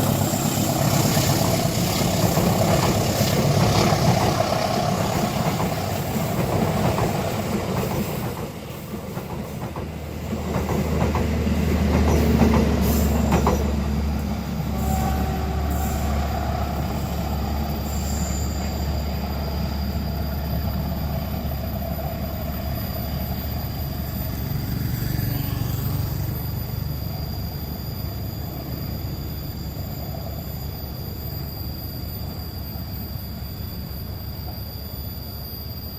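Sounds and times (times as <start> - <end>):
high wheel squeal: 0.0 - 8.9, 10.0 - 35.9
train rumbling past: 0.0 - 35.9.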